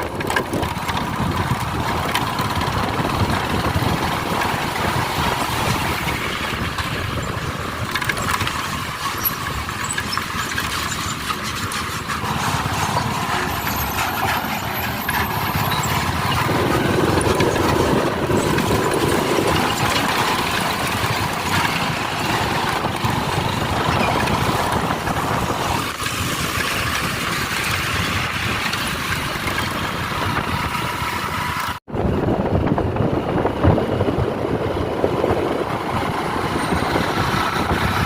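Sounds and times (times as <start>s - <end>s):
motorcycle engine running: 0.0s - 38.0s
wind and road noise: 0.0s - 38.0s.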